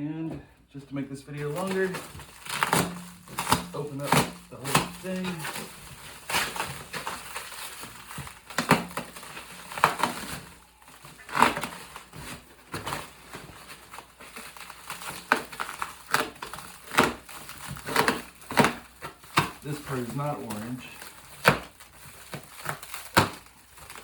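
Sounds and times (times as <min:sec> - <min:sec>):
cardboard and packing crumpling: 0:01.3 - 0:24.0.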